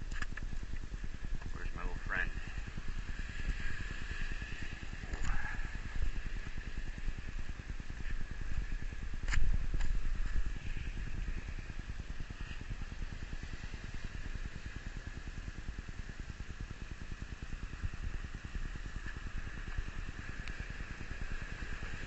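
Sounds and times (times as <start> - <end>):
faint high hum: 0.0 - 22.0
low rumbling noise: 0.0 - 22.0.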